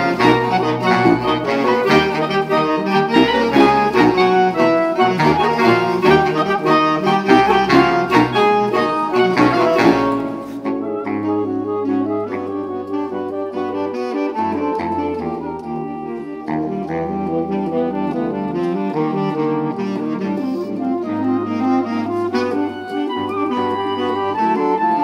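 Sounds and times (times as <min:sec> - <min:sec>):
saxophone ensemble playing: 0:00.0 - 0:25.0.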